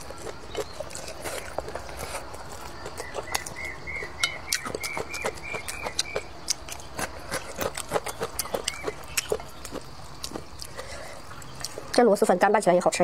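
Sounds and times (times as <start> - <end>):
wet chewing and lip smacks: 0.0 - 12.0.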